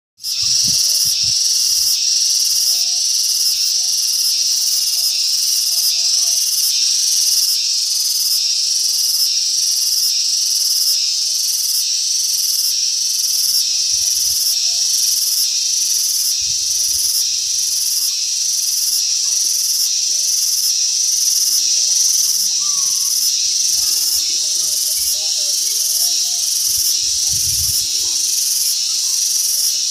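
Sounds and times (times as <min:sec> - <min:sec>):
cicada buzzing: 0:00.2 - 0:29.9.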